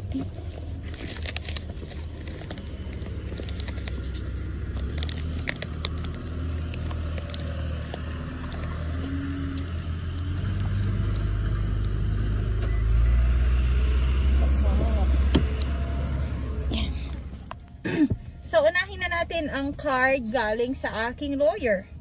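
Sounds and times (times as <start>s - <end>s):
car engine running: 0.0s - 21.5s
road rumble: 0.0s - 22.0s.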